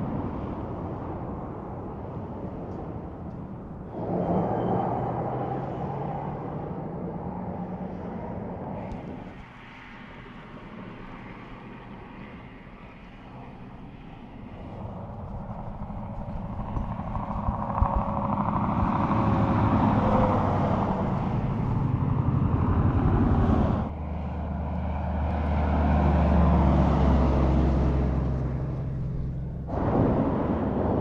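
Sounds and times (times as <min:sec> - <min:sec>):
truck engine drone: 0:00.0 - 0:31.0
trucks passing on highway: 0:00.0 - 0:31.0.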